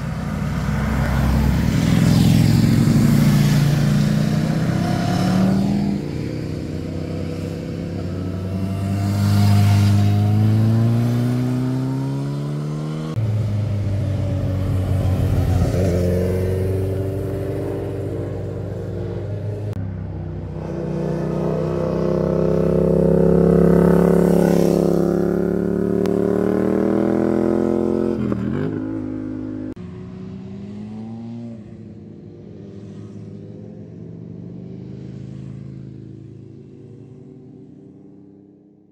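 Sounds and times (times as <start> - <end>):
motorcycle engine accelerating: 0.0 - 38.8
quieter motorcycle accelerating: 0.0 - 38.9.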